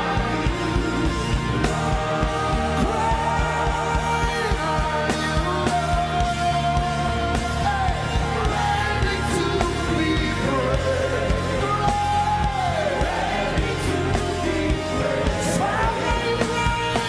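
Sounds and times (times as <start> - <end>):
bass line: 0.0 - 17.0
drum beats: 0.0 - 17.0.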